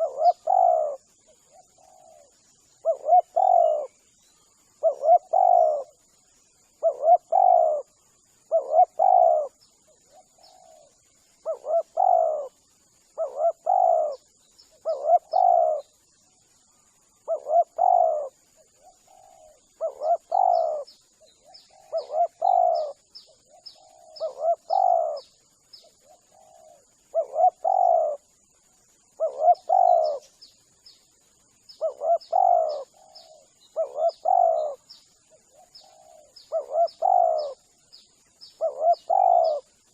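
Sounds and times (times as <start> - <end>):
dove cooing: 0.0 - 4.0, 4.8 - 6.1, 6.8 - 12.6, 13.2 - 16.0, 17.2 - 28.2, 29.2 - 30.4, 31.8 - 39.9
faint steady high tone: 0.0 - 39.9
small bird chirping: 0.0 - 39.9.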